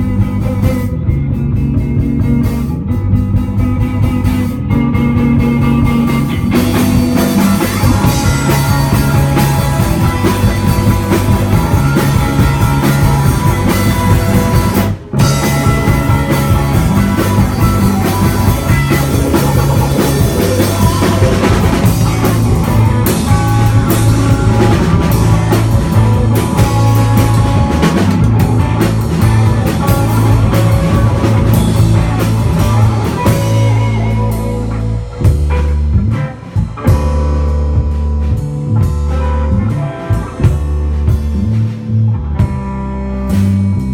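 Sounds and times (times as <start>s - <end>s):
busy drumming: 0.0s - 43.9s
distorted electric guitar: 0.0s - 43.9s
heavy bass line: 0.0s - 43.9s.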